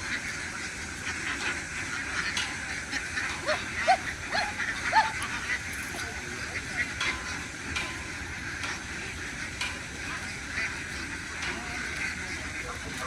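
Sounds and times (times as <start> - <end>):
flock of ducks quacking: 0.0 - 13.0.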